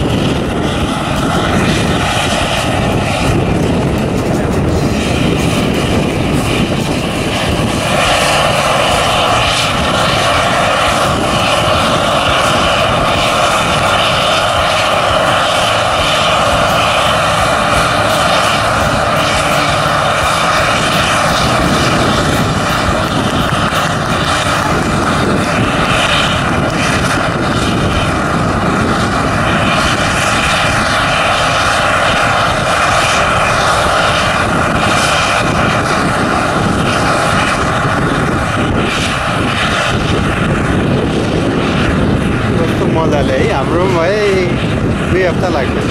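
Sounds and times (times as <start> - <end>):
combine harvester drone: 0.0 - 45.9
high machine whine: 0.0 - 45.9.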